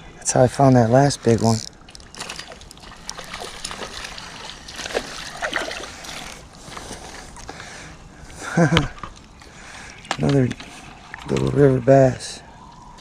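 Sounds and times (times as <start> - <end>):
water splashing and sloshing: 1.4 - 13.0.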